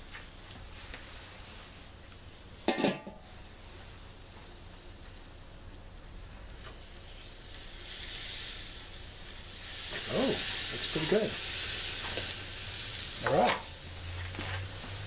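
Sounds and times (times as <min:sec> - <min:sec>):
fish sizzling on a grill: 0:00.0 - 0:15.0.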